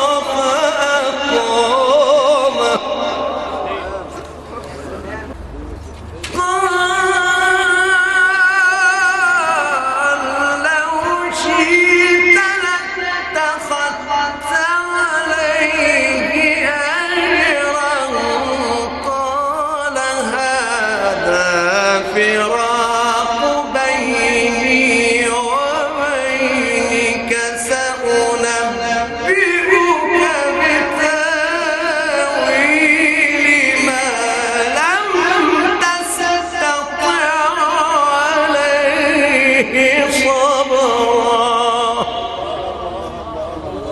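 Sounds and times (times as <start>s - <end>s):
man reciting melodically: 0.0s - 5.4s, 6.3s - 43.9s.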